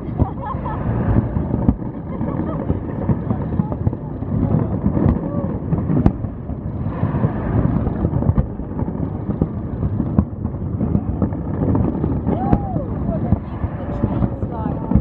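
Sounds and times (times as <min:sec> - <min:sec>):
fireworks bursting rumble: 0:00.0 - 0:15.0
sharp firework bangs: 0:00.0 - 0:15.0.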